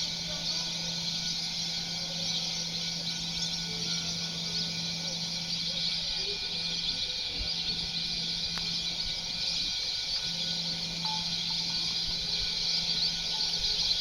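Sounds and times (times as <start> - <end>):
birds chirping chorus: 0.0 - 14.0
faint low hum: 0.0 - 14.0.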